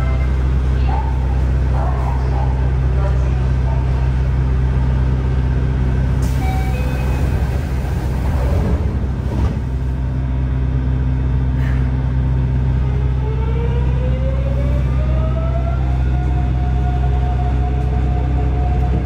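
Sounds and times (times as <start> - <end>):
subway car running hum: 0.0 - 19.0.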